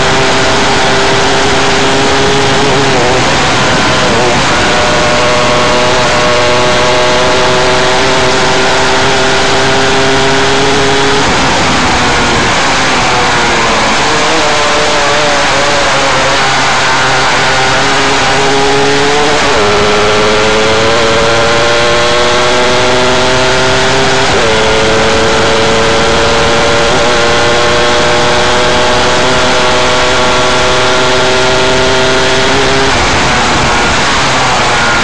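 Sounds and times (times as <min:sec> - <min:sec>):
race car engine at speed: 0:00.0 - 0:35.0
wind rush: 0:00.0 - 0:35.0.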